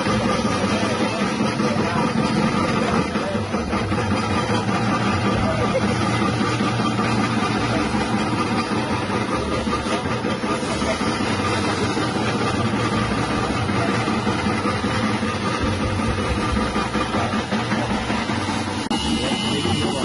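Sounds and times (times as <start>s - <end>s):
chip-slicing machine humming: 0.0s - 20.0s.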